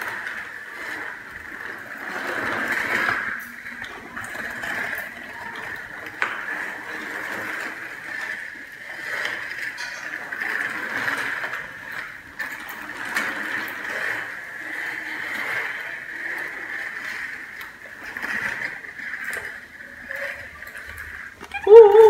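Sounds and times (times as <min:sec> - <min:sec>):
plastic wheels rumbling on tiles: 0:00.0 - 0:22.0.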